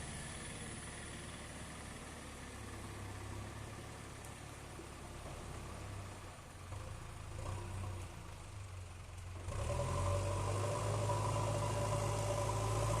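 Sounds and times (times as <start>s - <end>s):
excavator diesel engine hum: 0.0s - 13.0s.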